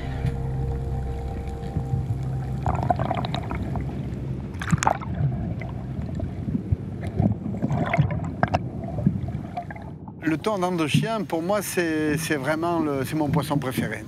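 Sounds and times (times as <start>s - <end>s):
crackles: 0.0s - 14.0s
underwater bubbles and churned water: 0.0s - 14.0s.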